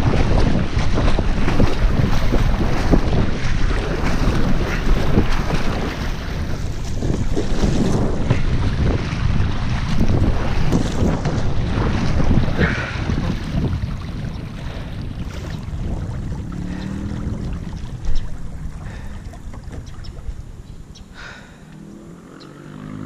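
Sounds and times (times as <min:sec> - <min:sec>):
paddle strokes: 0:00.0 - 0:22.1
water rushing past kayak: 0:00.0 - 0:23.0
wind on microphone: 0:00.0 - 0:23.0.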